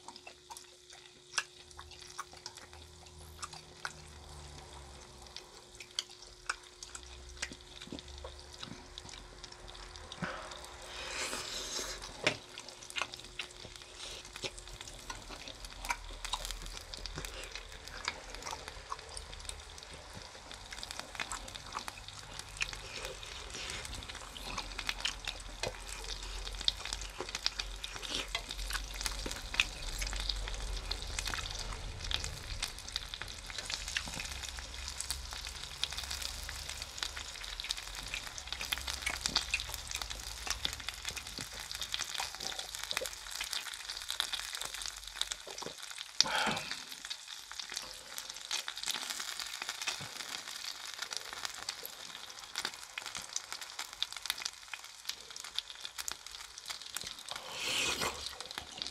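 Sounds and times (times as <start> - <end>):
skewers sizzling on grill: 0.0 - 58.9.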